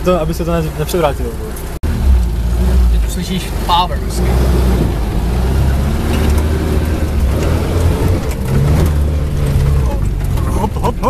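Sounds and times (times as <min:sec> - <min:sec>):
engine pulling hard uphill: 0:00.0 - 0:11.0.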